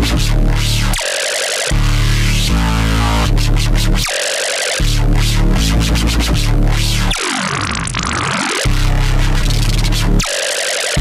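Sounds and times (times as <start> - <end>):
hard techno mix: 0.0 - 11.0.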